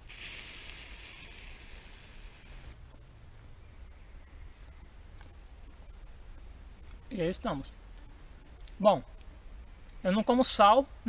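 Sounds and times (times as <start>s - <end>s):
insects trilling: 0.0s - 11.0s
soft low hiss: 0.0s - 11.0s.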